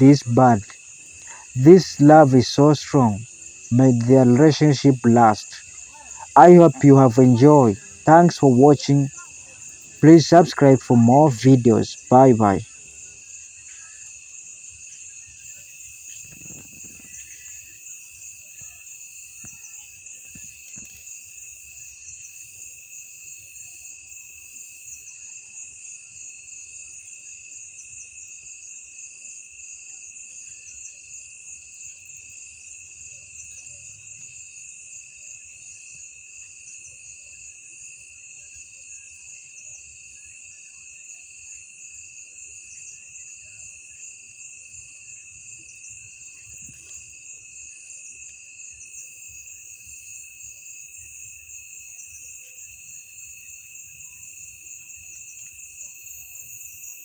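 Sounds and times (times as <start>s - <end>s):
crickets trilling: 0.0s - 57.0s
pulsing insect trill: 0.0s - 57.0s.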